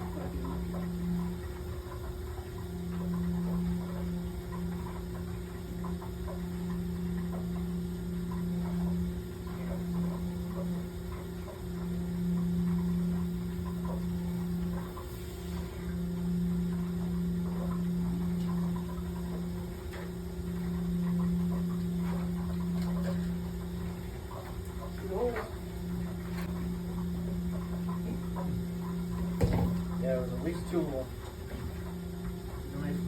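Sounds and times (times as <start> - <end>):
electrical equipment hum: 0.0 - 33.0.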